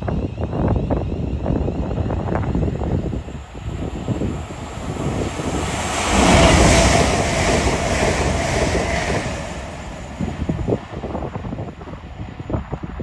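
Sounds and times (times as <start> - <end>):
passenger train passing at speed: 0.0 - 13.0
wind buffeting microphone: 0.0 - 13.0.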